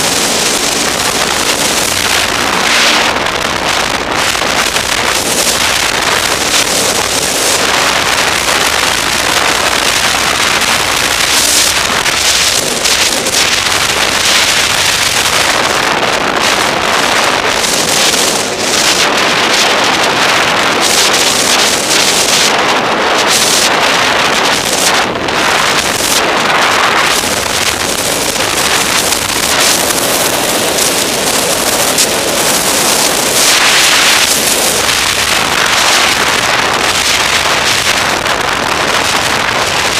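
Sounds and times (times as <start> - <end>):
snowmobile engine running: 0.0 - 39.9
wind rushing over microphone: 0.0 - 39.9.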